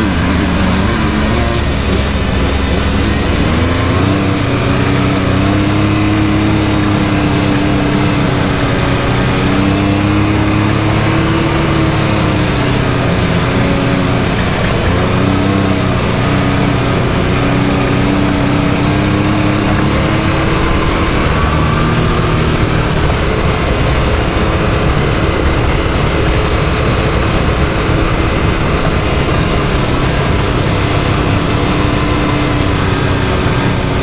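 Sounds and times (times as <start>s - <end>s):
off-road vehicle engine running: 0.0s - 34.0s
vehicle rumbling on trail: 0.0s - 34.0s.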